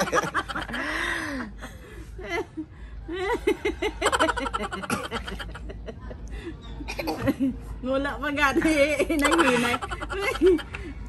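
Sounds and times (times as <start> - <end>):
women laughing: 0.0 - 6.5, 8.6 - 11.0.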